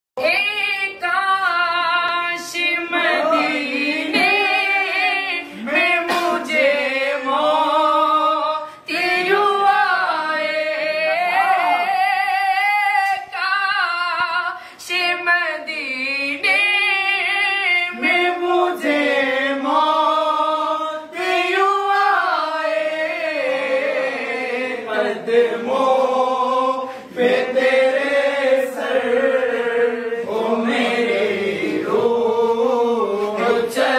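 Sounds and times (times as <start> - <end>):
men singing devotional song: 1.2 - 33.9.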